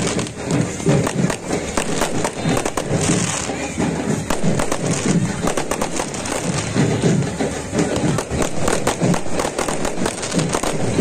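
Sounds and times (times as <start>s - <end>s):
fireworks bangs and crackles: 0.0s - 11.0s
music: 0.0s - 11.0s
voices: 0.0s - 11.0s.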